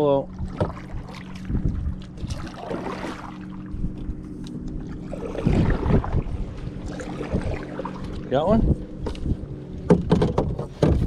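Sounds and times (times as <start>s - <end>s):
steady low hum: 0.0s - 11.0s
paddle strokes swishing through water: 0.3s - 9.9s.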